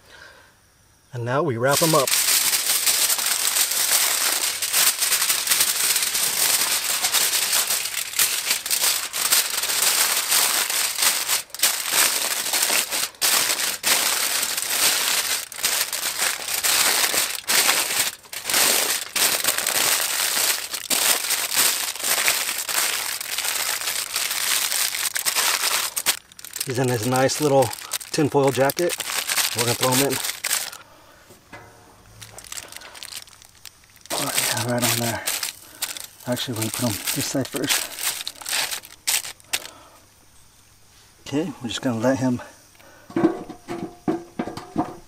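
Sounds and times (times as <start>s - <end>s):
aluminium foil crinkling: 1.7s - 30.9s, 31.5s - 39.9s.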